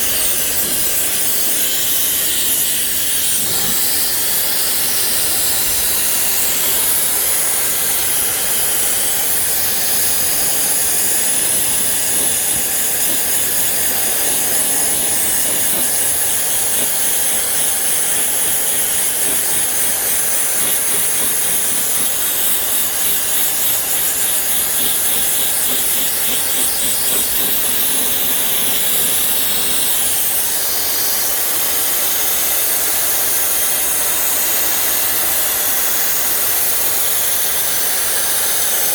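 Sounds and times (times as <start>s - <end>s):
high-pressure water jet hissing: 0.0s - 38.9s.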